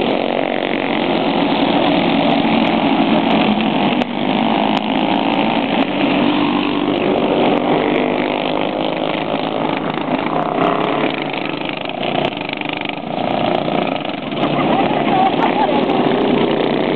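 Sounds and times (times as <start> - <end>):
kart engines revving: 0.0 - 16.9.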